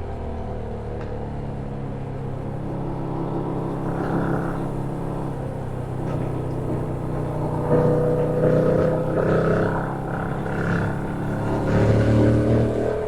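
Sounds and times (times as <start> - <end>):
motorcycle engine revving: 1.6 - 13.0.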